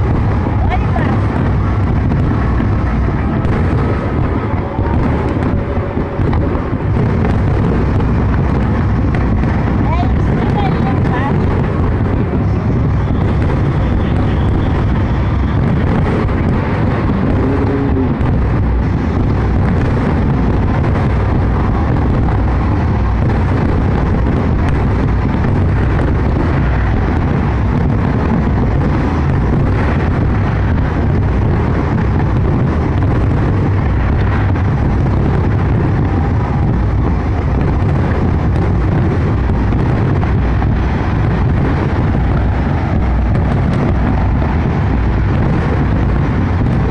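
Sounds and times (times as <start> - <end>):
fireworks bursting: 0.0 - 46.9.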